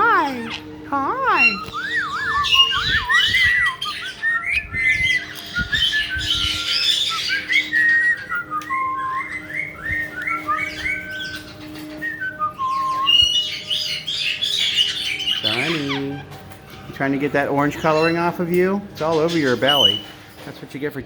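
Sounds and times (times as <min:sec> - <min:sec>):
parrots whistling and chattering: 0:00.0 - 0:20.7.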